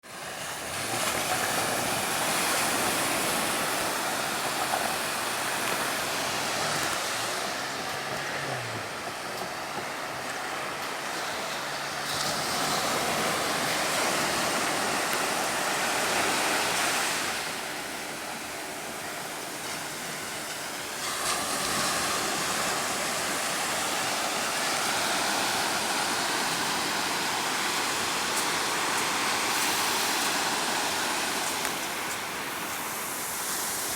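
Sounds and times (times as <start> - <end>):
surf washing onto beach: 0.0 - 33.9.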